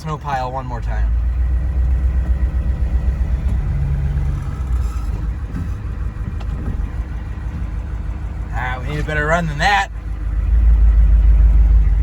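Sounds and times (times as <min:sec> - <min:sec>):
diesel truck engine under throttle: 0:00.0 - 0:12.0.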